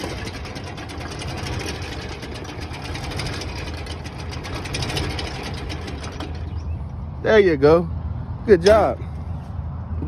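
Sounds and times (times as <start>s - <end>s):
tractor engine clattering: 0.0s - 7.8s, 8.5s - 9.1s.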